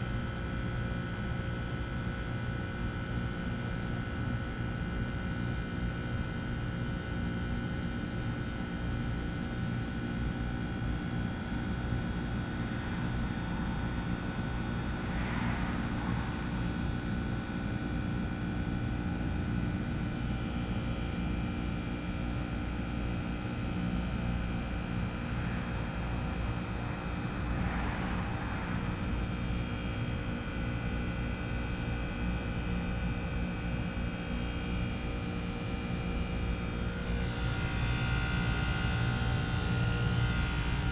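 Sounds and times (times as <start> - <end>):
heat pump mechanical hum: 0.0 - 40.9.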